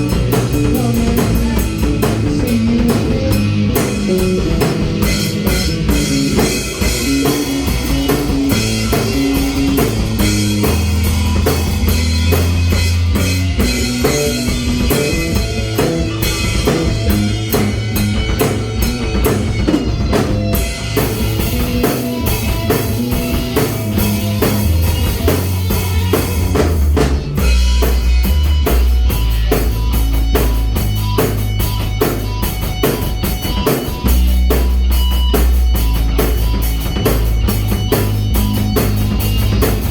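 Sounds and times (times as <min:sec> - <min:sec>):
drum kit: 0:00.0 - 0:39.9
rock band playing: 0:00.0 - 0:39.9.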